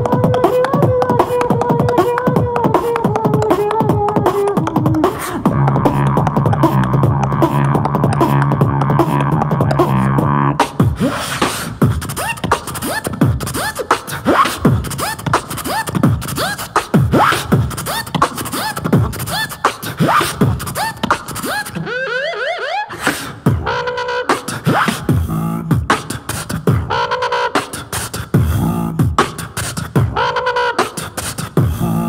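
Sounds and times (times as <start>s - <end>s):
beatboxing: 0.0s - 32.0s.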